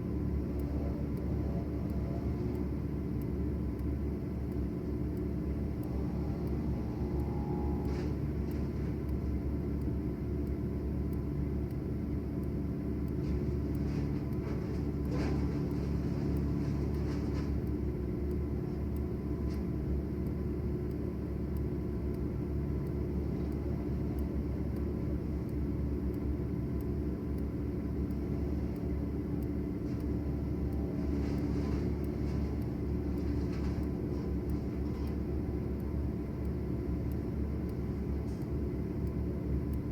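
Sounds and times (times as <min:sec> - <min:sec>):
large engine humming steadily: 0:00.0 - 0:39.9.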